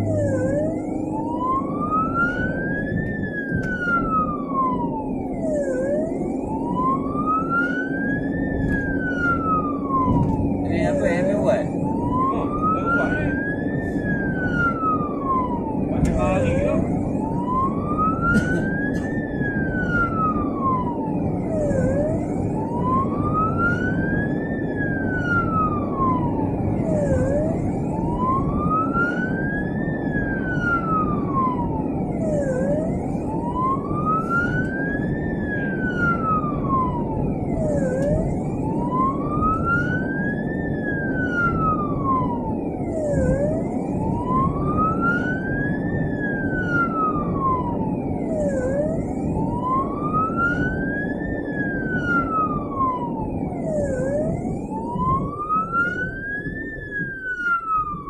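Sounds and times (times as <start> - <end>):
ambulance wail siren: 0.0 - 58.0
engine and road noise: 0.0 - 58.0.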